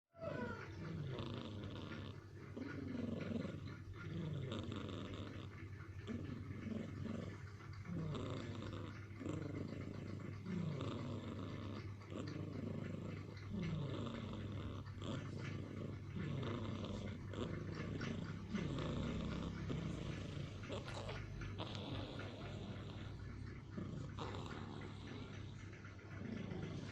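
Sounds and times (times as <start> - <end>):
cat snoring: 0.2 - 26.9.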